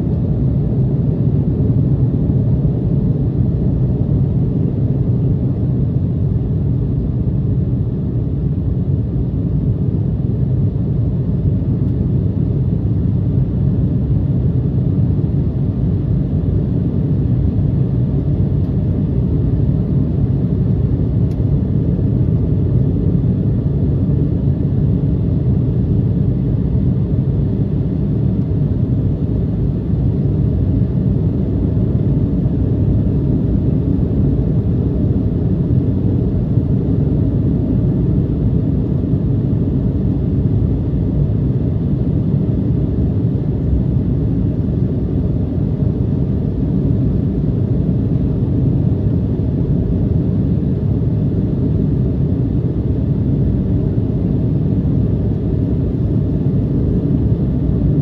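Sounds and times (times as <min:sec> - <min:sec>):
jet engines droning: 0:00.0 - 0:58.0.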